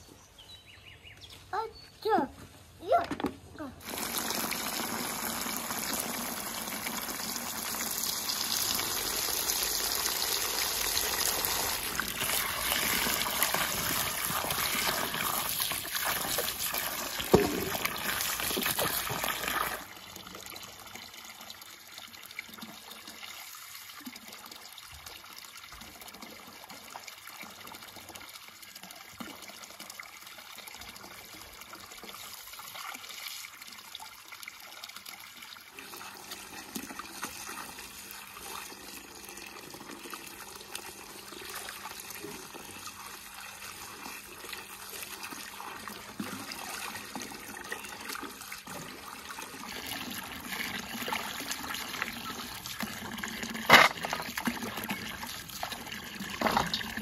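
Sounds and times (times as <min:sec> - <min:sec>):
water dribbling and splashing: 0:03.0 - 0:57.0
water pouring into a basin: 0:03.8 - 0:57.0.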